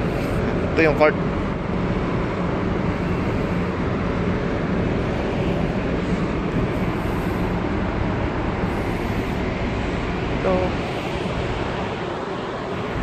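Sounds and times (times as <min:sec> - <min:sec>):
ship machinery hum: 0:00.0 - 0:13.0.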